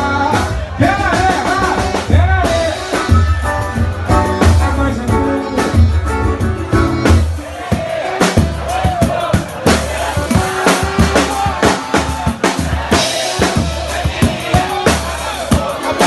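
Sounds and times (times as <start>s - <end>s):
drum kit beat: 0.0s - 16.0s
steady bass line: 0.0s - 16.0s.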